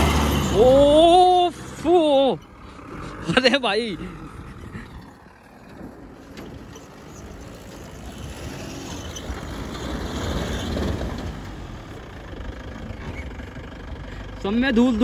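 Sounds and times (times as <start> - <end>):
pickup engine rumbling: 0.0 - 15.0
tyres churning through dirt: 0.0 - 15.0.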